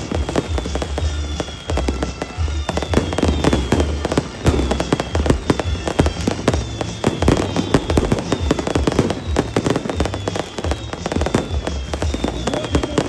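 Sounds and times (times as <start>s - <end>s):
firework whistles: 0.0s - 13.0s
fireworks bangs and pops: 0.0s - 13.0s.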